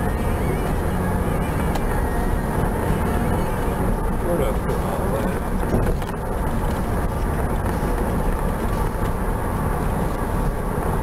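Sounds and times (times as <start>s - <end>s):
car engine and tyre road noise: 0.0s - 11.0s.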